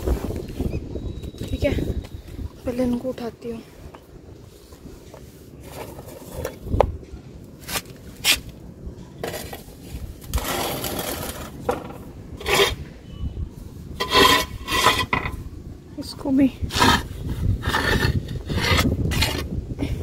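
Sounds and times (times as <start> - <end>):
wind rumble on microphone: 0.0 - 7.3, 8.7 - 20.0.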